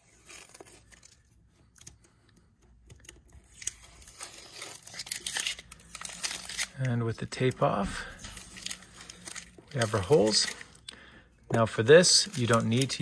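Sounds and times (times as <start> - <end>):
masking tape peeling and crumpling: 0.0 - 10.8, 12.0 - 13.0.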